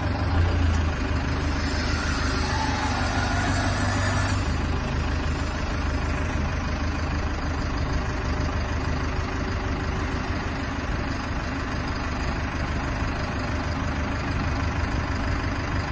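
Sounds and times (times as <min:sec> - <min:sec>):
diesel engine running at low revs: 0:00.0 - 0:15.9.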